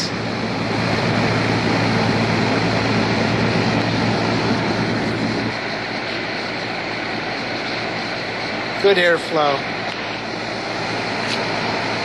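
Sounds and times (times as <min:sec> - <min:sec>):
air conditioner low hum: 0:00.0 - 0:12.0
fan blowing air: 0:00.0 - 0:12.0.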